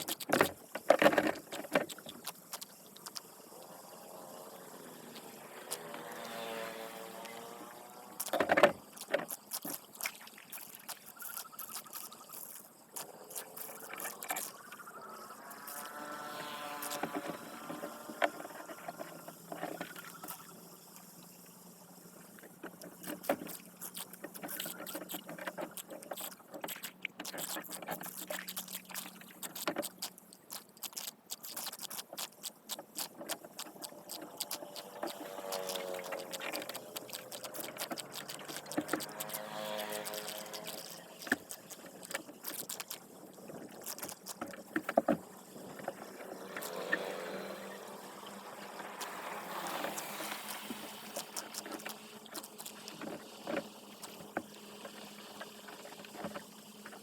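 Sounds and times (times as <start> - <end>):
splashes in shallow water: 0.0 - 57.0.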